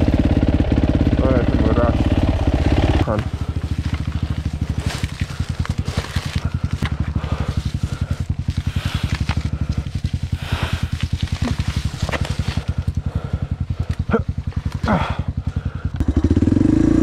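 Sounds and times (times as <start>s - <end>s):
motorbike engine idling: 0.0s - 17.0s
dry grass rustling and crackling: 1.8s - 15.6s.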